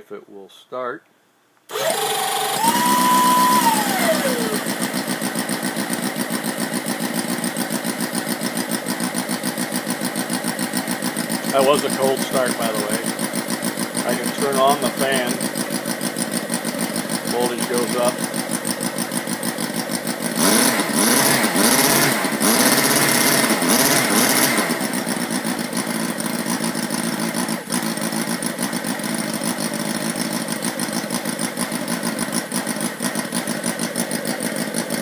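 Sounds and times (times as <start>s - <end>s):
model engine running: 1.7s - 35.0s.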